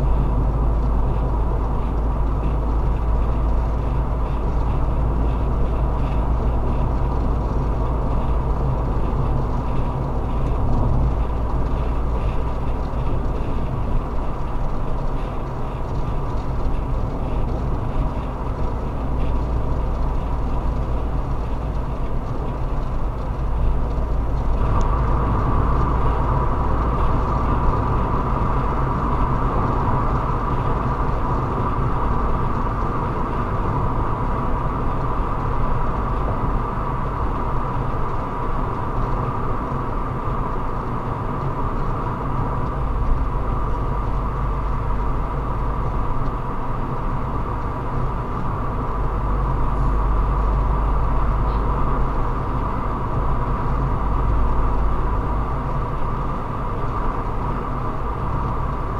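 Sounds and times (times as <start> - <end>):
car road and engine rumble: 0.0 - 58.9
constant hum: 0.0 - 58.9.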